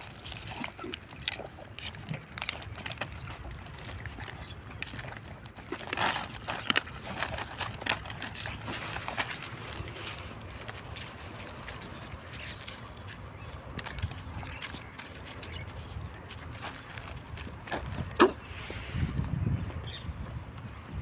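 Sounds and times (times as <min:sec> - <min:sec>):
paws crinkling plastic tarp: 0:00.0 - 0:21.0
puppies chewing and crunching: 0:00.0 - 0:21.0.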